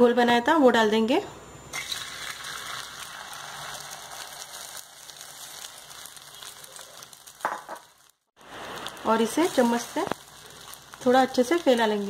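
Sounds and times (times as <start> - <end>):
egg frying in hot oil: 1.8 - 12.0.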